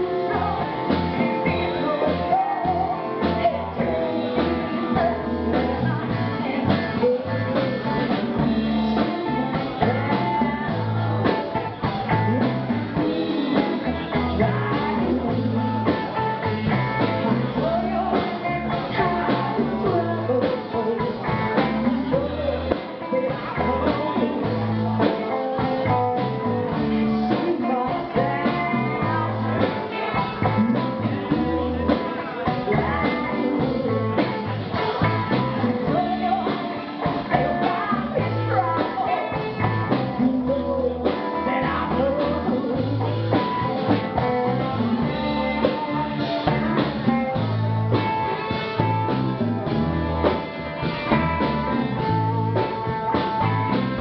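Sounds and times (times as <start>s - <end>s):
electric guitar: 0.0s - 54.0s
live blues-rock band: 0.0s - 54.0s
person singing: 0.0s - 54.0s.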